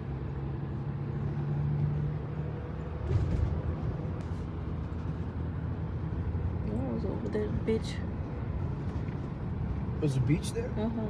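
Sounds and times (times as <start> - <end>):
engine hum: 0.0 - 11.0
road rumble inside car: 0.0 - 11.0.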